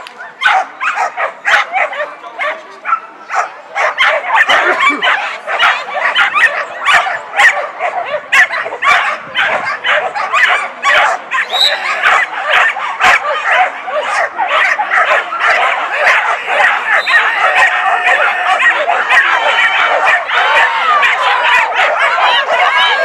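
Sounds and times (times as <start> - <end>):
dogs barking and yipping: 0.1 - 23.0.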